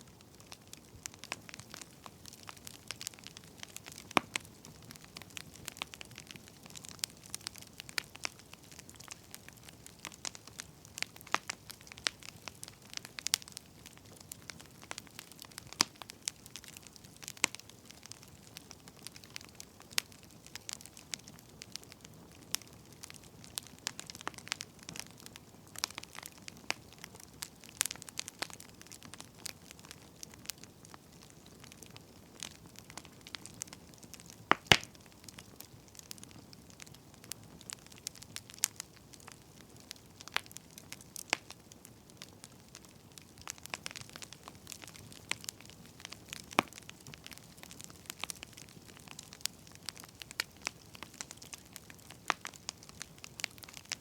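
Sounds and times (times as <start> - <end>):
soft steady hiss: 0.0 - 54.0
wood fire crackling and popping: 0.0 - 54.0.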